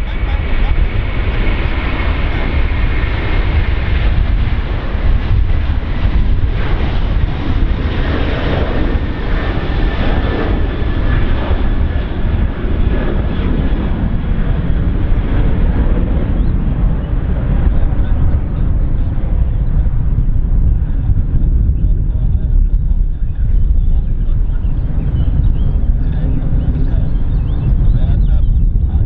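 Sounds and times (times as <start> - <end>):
jet engine roar: 0.0 - 29.0.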